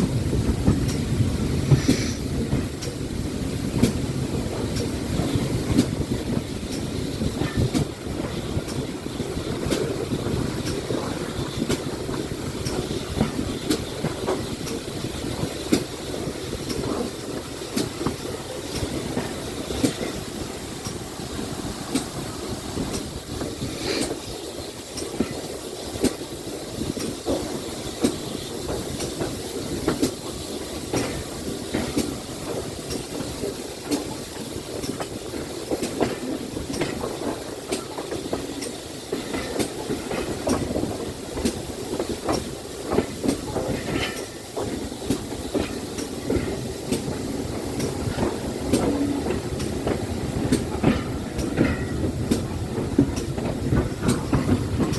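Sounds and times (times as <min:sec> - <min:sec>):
steam train rumbling: 0:00.0 - 0:54.9
sharp rail clicks: 0:00.4 - 0:54.9.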